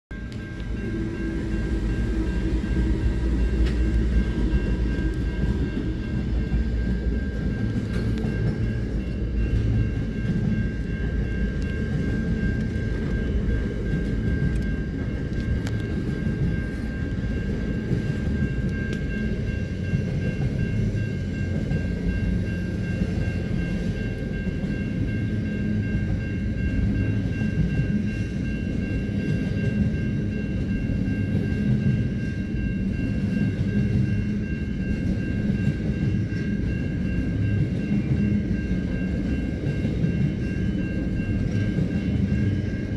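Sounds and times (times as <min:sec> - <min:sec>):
freight train passing: 0:00.1 - 0:42.9
level crossing warning bell: 0:00.1 - 0:42.9.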